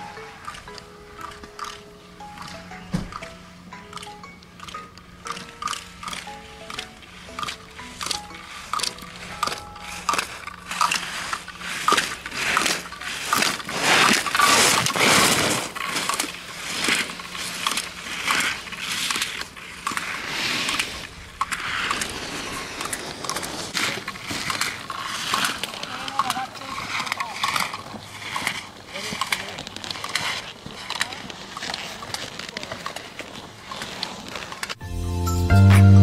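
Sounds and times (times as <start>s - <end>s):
skis carving across snow: 4.0s - 34.8s.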